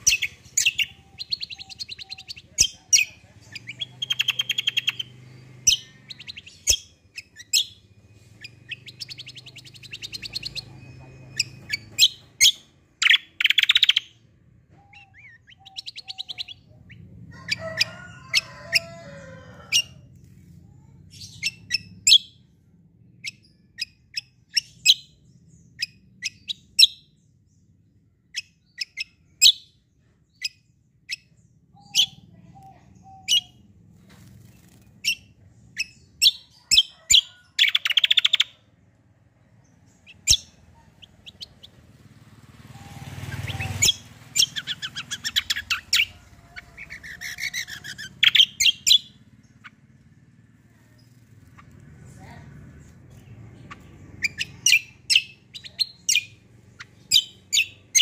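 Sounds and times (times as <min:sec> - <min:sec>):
bird trilling and chipping: 0:00.0 - 0:20.1, 0:20.8 - 0:22.4, 0:28.3 - 0:38.7, 0:39.5 - 0:42.1, 0:42.7 - 0:50.0, 0:50.7 - 0:58.0.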